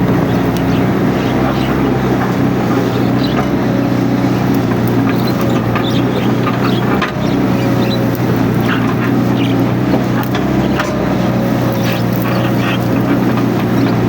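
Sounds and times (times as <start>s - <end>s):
crackles and squeaks: 0.0s - 14.0s
excavator diesel engine running: 0.0s - 14.0s.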